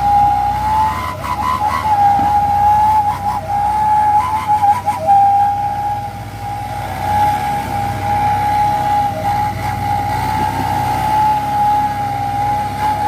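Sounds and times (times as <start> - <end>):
diesel truck engine rumbling: 0.0 - 13.0
high whistle-like tone: 0.0 - 13.0.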